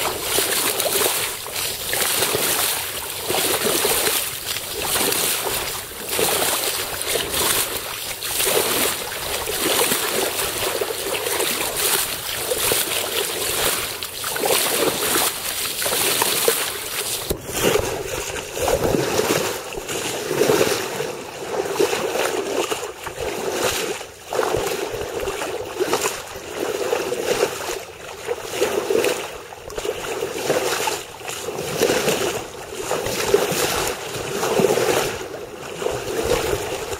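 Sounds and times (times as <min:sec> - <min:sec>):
water splashing along a hull: 0:00.0 - 0:36.9.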